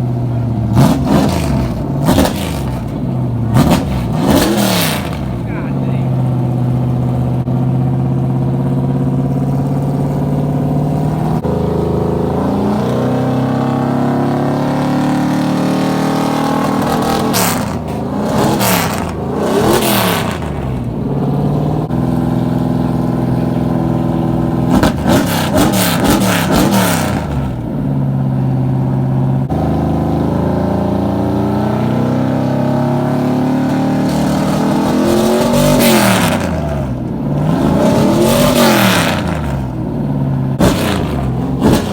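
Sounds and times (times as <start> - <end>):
car engines idling: 0.0 - 41.9
engine throttle blips: 0.0 - 41.9.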